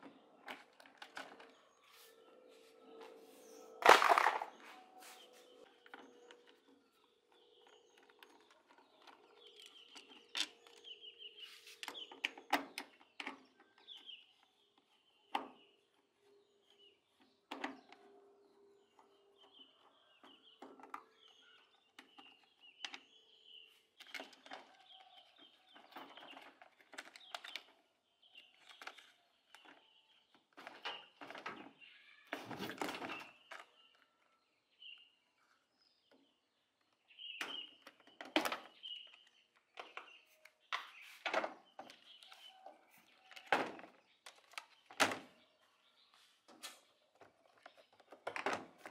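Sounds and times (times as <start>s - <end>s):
faint birds chirping: 0.0s - 48.9s.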